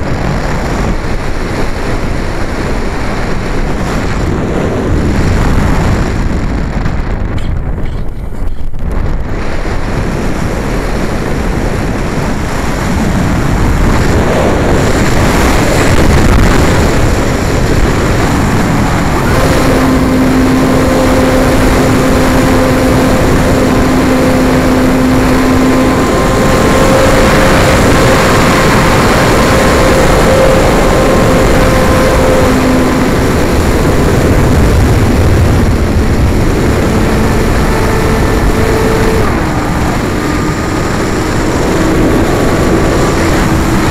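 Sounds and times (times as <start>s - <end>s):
air rushing over microphone: 0.0s - 43.9s
model airplane propeller whine: 0.0s - 43.9s.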